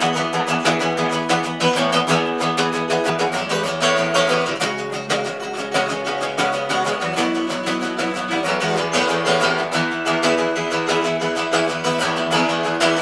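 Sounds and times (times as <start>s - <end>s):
acoustic guitars strumming chords: 0.0s - 13.0s.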